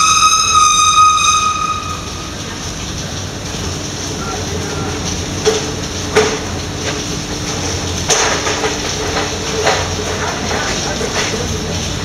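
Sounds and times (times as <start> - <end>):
factory machinery running: 0.0 - 12.0.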